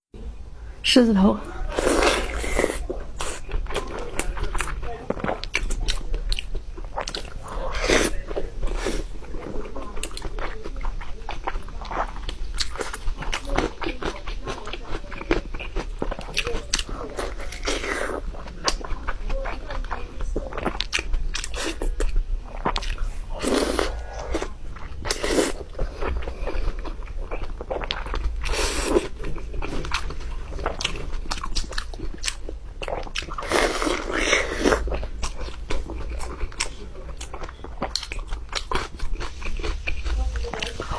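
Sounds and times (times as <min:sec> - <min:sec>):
wet chewing and mouth smacking: 0:01.7 - 0:40.9.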